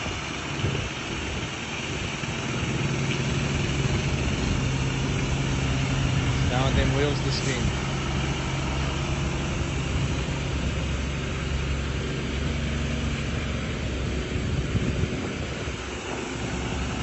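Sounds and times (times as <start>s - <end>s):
truck engine running under load: 0.0s - 17.0s.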